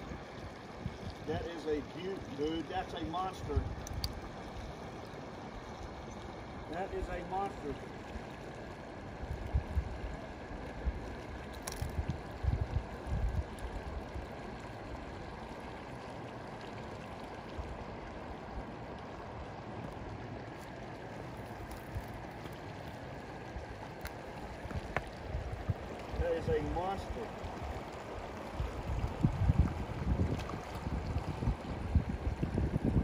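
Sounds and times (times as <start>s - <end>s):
river water running over rocks: 0.0s - 33.0s.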